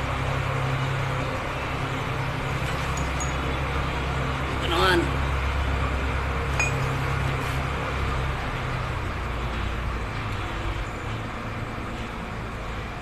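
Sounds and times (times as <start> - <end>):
low rumble of vehicle engines: 0.0 - 13.0.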